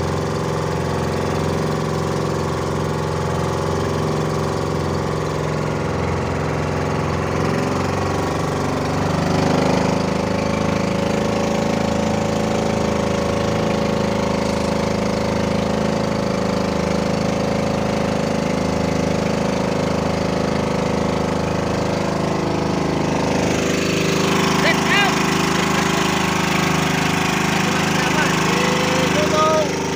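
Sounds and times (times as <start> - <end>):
small boat engine running: 0.0 - 29.9.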